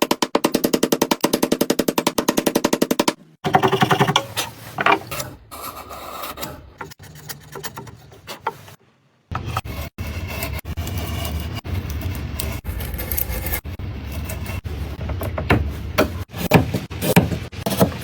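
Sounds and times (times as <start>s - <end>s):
scraping and rubbing wood: 3.4s - 18.0s.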